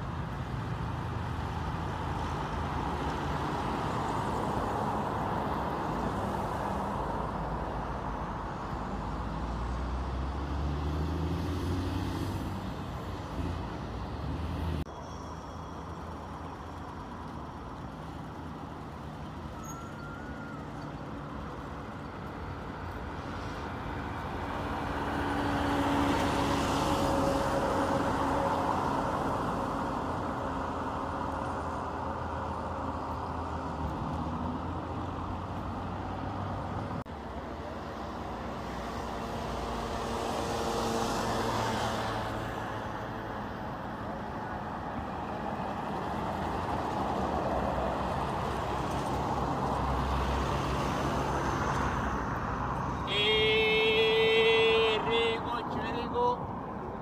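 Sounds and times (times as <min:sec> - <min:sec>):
cars and trucks driving past: 0:00.0 - 0:57.0.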